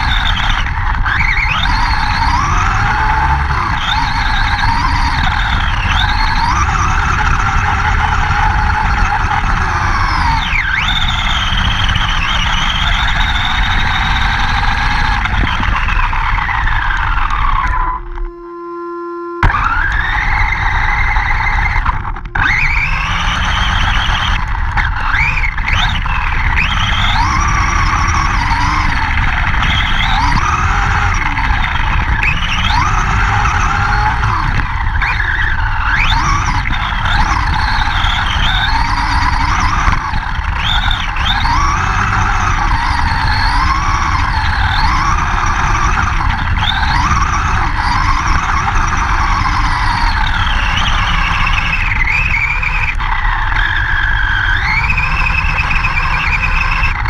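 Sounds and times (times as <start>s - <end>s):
toy truck motor whining: 0.0s - 57.0s.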